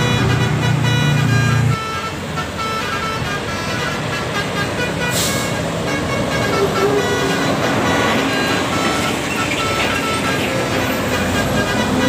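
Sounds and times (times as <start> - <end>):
bus horn playing tune: 0.0 - 12.0
heavy vehicle traffic: 0.0 - 12.0.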